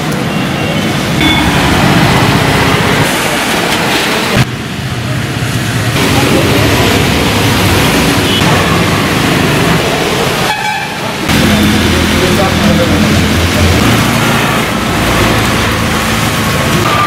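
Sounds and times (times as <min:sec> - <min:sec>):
tyres hissing on wet road: 0:00.0 - 0:17.0
vehicle engines: 0:00.0 - 0:17.0.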